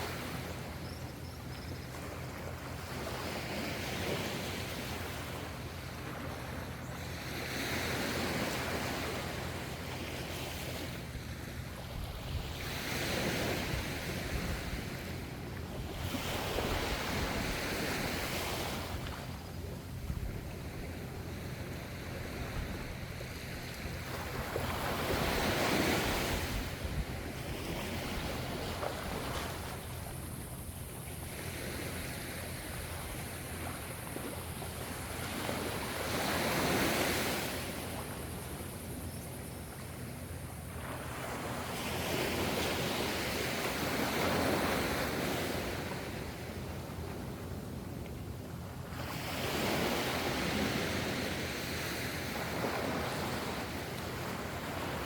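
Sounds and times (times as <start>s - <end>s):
waves breaking: 0.0s - 0.8s, 1.8s - 55.0s.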